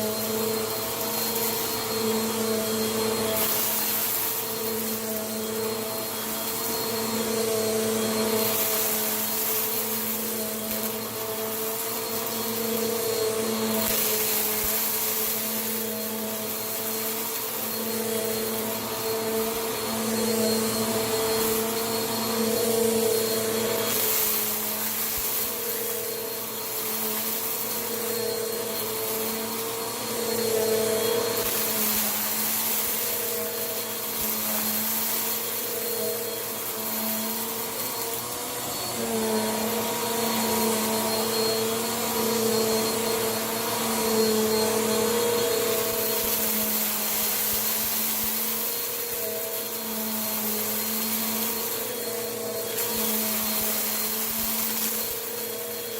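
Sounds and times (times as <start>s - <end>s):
vacuum cleaner running: 0.0s - 55.9s
vacuum sucking up gritty dirt: 0.0s - 55.9s.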